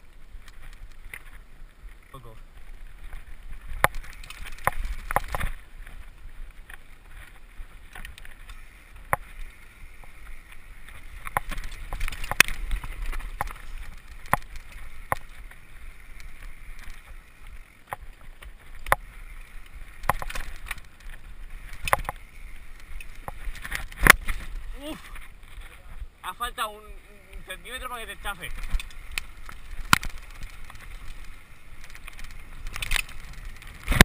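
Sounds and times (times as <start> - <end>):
bike knocking and clattering on rocks: 2.6 - 26.0, 28.1 - 34.0.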